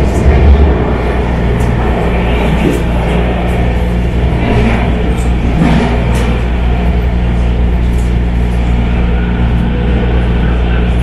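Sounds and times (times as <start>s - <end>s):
train motors humming: 0.0s - 11.0s
wheels rumbling on rails: 0.0s - 11.0s.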